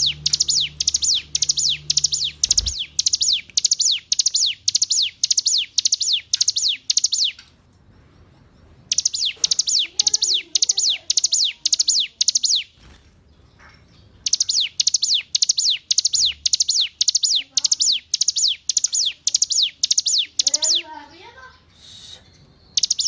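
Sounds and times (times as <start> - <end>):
bird singing high-pitched notes: 0.0 - 7.4, 8.9 - 12.9, 14.2 - 21.0, 22.2 - 23.0.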